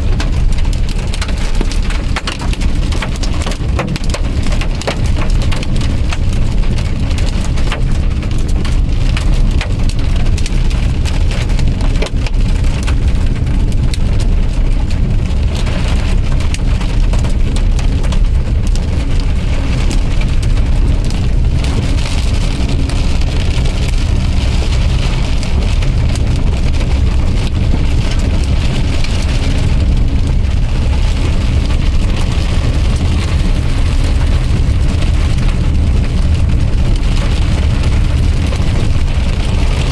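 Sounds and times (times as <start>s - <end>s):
car road and engine rumble: 0.0s - 39.9s
hail drumming on a car: 0.0s - 39.9s.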